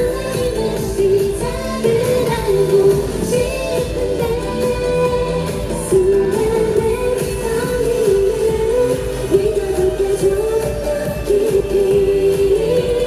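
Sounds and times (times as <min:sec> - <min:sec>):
girl group singing pop song: 0:00.0 - 0:13.0
pop backing music: 0:00.0 - 0:13.0.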